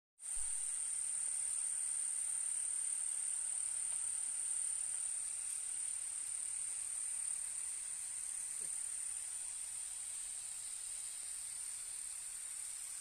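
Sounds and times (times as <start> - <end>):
faint hiss: 0.2 - 13.0
high-pitched insect chorus: 0.2 - 13.0.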